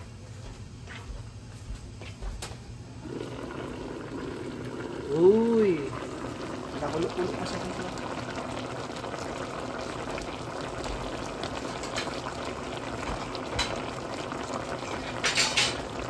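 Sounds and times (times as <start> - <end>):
pork bubbling in a pan: 3.0 - 16.0.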